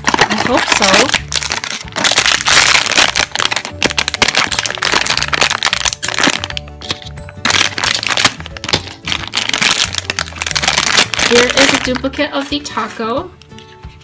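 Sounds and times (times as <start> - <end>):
foil bag crinkling and tearing: 0.0 - 13.0
background music: 0.0 - 14.0.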